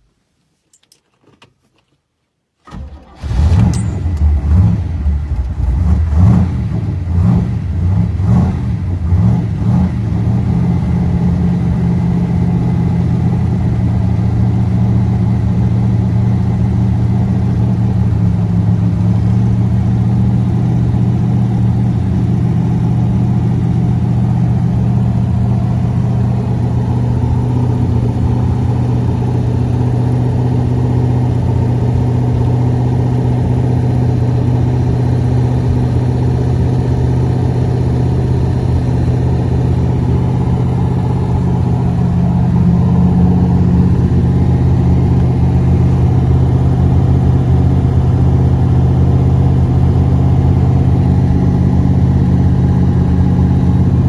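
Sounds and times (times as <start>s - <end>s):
car engine idling: 10.0s - 54.0s.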